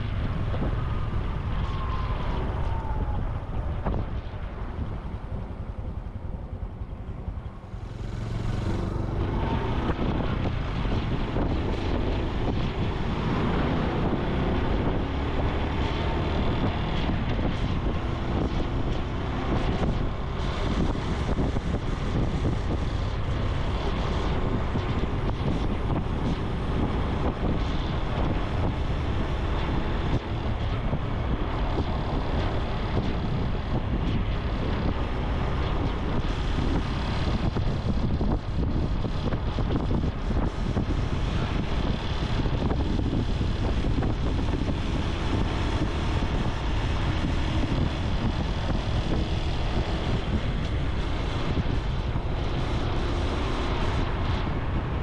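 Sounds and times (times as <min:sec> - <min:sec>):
wind buffeting microphone: 0:00.0 - 0:55.0
motorcycle engine running: 0:03.3 - 0:55.0.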